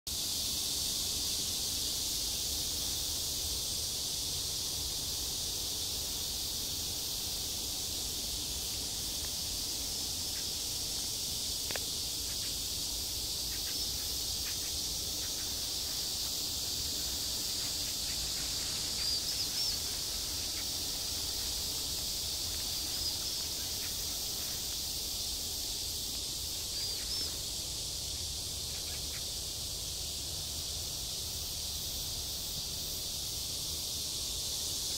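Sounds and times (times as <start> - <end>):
high-pitched insect chorus: 0.1 - 34.9.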